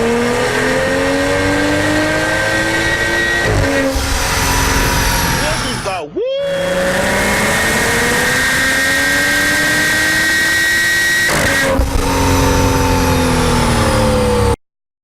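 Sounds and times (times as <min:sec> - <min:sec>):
car engine revving: 0:00.0 - 0:14.6
high-pitched screech: 0:01.4 - 0:14.4.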